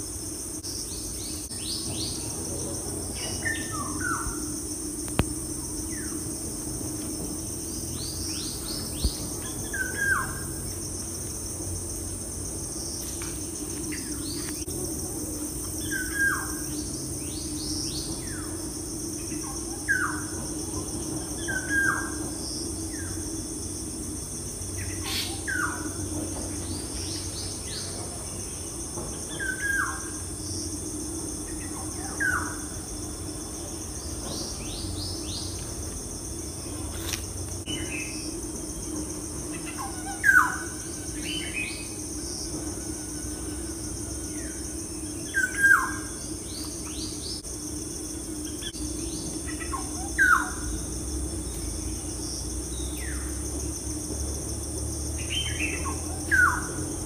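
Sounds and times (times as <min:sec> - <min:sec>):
high hiss: 0:00.0 - 0:57.0.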